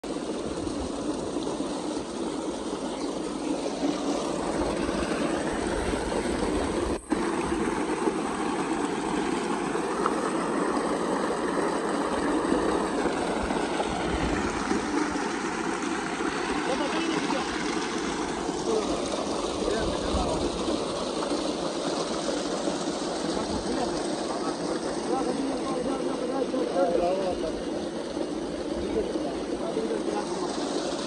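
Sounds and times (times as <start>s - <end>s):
water pouring into a tank: 0.0s - 31.0s.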